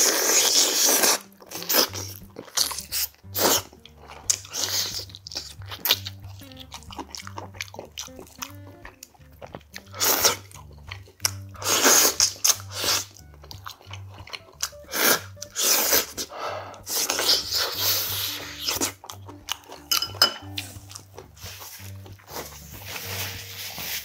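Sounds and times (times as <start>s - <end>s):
man chewing meat: 0.0s - 23.9s
background music with low beat: 0.1s - 24.0s.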